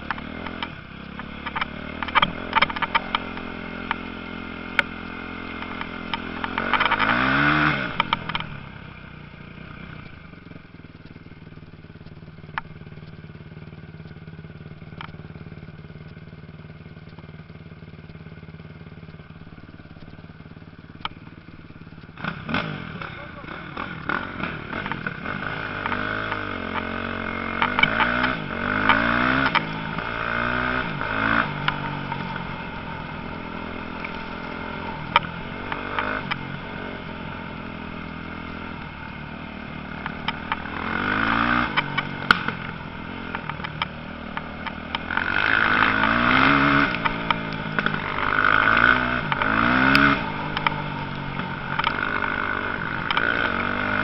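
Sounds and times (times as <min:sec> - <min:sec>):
motocross motorcycles revving: 0:00.0 - 0:54.0.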